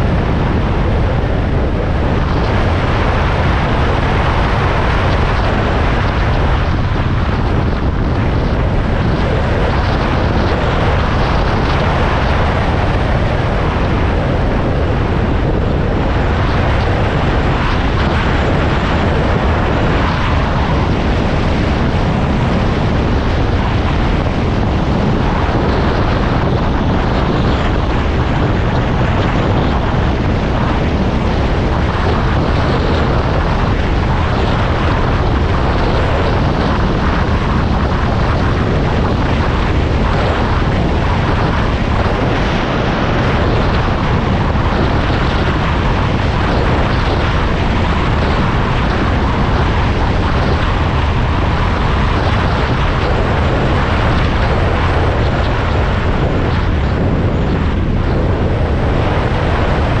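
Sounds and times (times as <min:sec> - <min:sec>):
dense rushing noise: 0:00.0 - 1:00.0
engine running loudly: 0:00.0 - 1:00.0.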